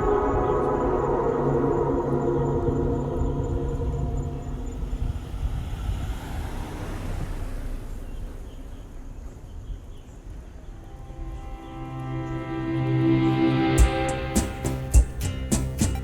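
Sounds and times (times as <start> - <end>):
rushing noise: 0.0 - 7.5, 10.5 - 16.0
outdoor background rumble: 0.0 - 16.0.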